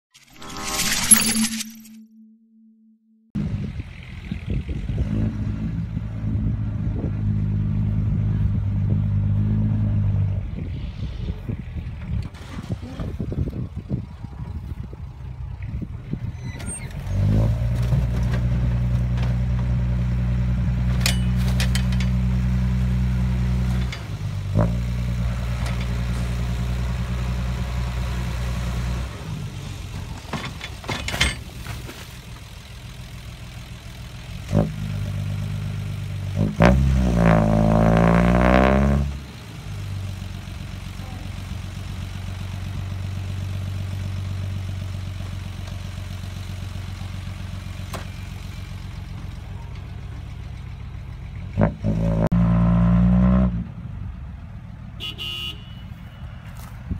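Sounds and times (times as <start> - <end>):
diesel truck engine revving: 3.4 - 31.6, 32.3 - 54.4.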